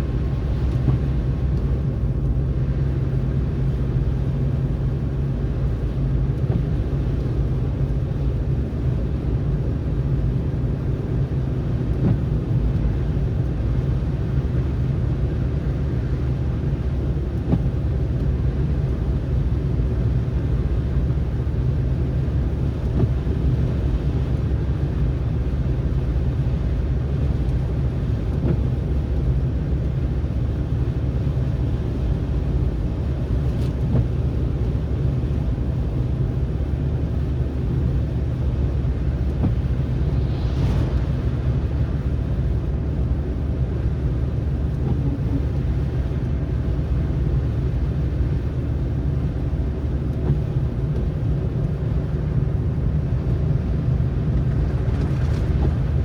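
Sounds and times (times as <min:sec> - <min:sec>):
car driving on snow: 0:00.0 - 0:56.0.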